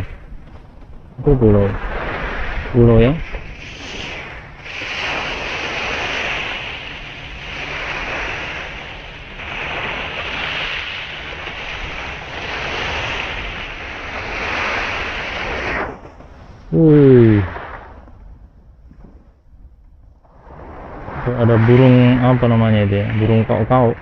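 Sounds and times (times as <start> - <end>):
wind buffeting microphone: 0.0 - 24.0
sea surf washing on shore: 1.2 - 18.1, 20.4 - 24.0.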